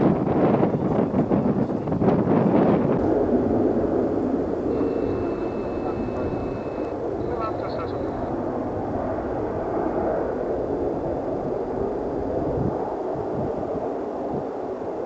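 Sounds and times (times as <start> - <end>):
turboprop aircraft flying past: 0.0 - 15.0.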